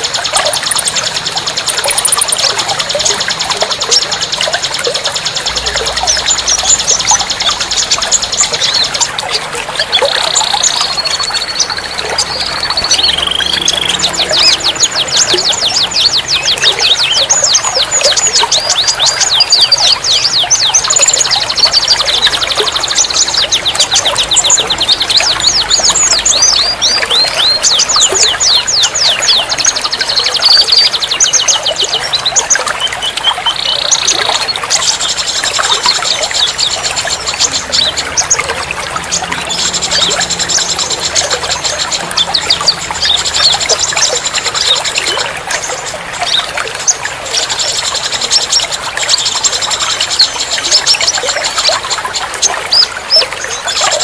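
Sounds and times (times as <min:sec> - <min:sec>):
songbird chirping and trilling: 0:00.0 - 0:54.0
trickling water: 0:00.0 - 0:54.0.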